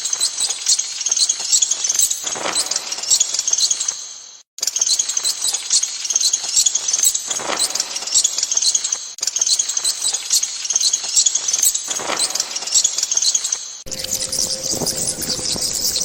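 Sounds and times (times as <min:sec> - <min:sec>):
bats squeaking and chirping: 0:00.0 - 0:16.0.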